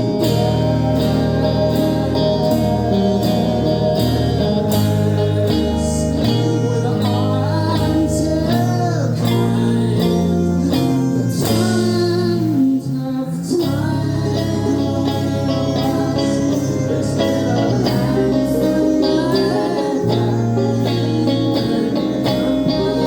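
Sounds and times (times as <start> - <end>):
guitar: 0.0 - 23.0
high singing voice: 0.0 - 23.0
low bass notes: 0.0 - 23.0.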